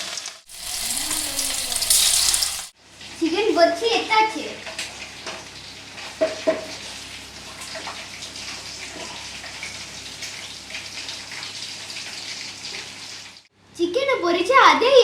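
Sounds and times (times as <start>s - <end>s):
hot oil sizzling: 0.0s - 3.2s, 4.6s - 13.5s.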